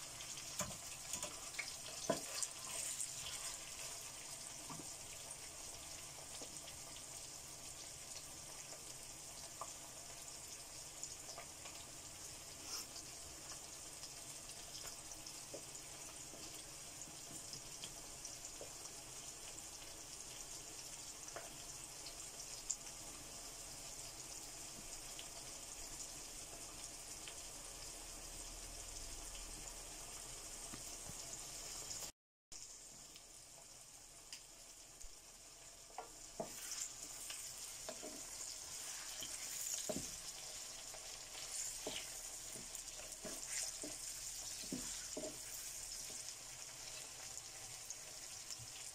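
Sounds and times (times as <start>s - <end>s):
onions sizzling in oil: 0.0s - 48.9s.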